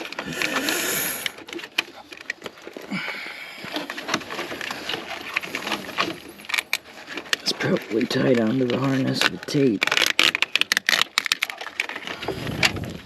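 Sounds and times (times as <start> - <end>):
rustling of hose and wiring: 0.0 - 13.0.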